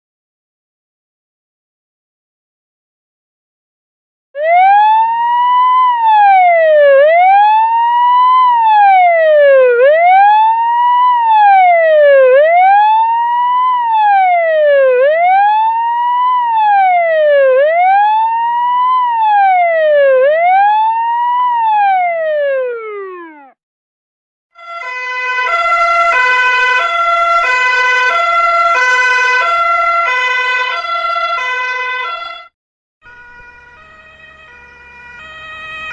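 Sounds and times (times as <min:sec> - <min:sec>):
ambulance siren wailing: 0:04.4 - 0:23.6, 0:24.6 - 0:35.9.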